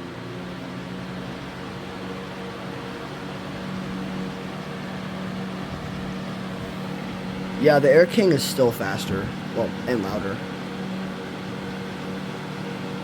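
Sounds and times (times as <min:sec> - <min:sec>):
box fan rushing air: 0:00.0 - 0:13.0
low fan hum: 0:00.0 - 0:13.0.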